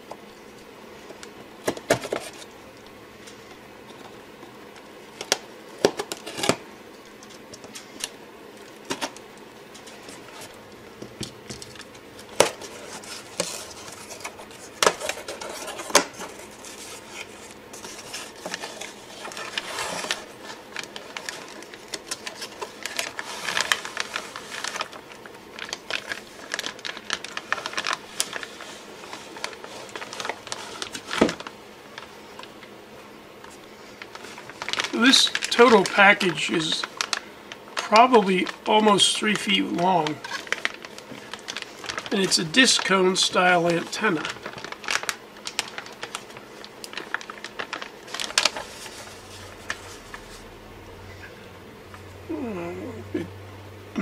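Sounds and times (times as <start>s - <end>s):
cardboard and plastic rustling: 1.0s - 2.6s, 3.2s - 50.6s.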